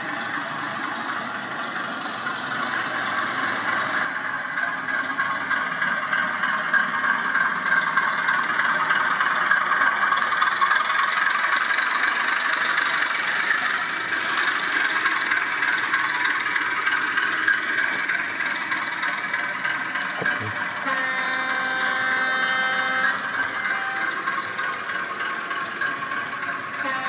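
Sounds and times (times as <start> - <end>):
model train running with rattle: 0.0 - 27.0.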